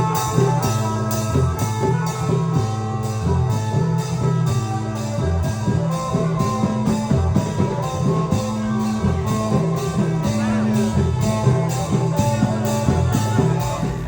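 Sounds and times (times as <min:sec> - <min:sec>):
drum band playing amplified music: 0:00.0 - 0:14.0
steady drum beat: 0:00.0 - 0:14.0.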